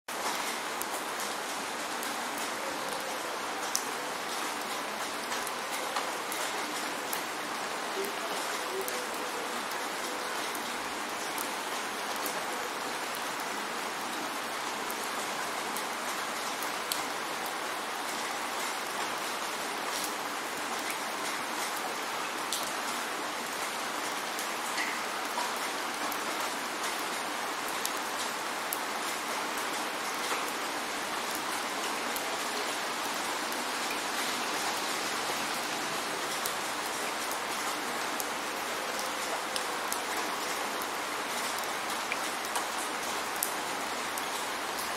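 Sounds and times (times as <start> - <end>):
steady rain falling: 0.1 - 44.9.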